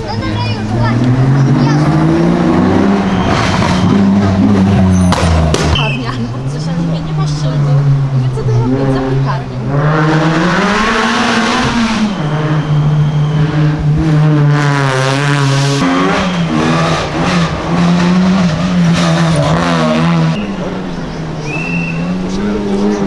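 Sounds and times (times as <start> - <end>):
rally car engines at high revs: 0.0 - 23.0.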